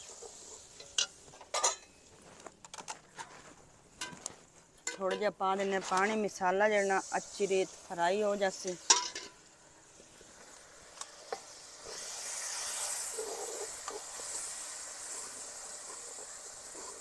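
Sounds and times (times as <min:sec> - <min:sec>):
masala sizzling in hot oil: 0:00.0 - 0:02.2, 0:03.9 - 0:17.0.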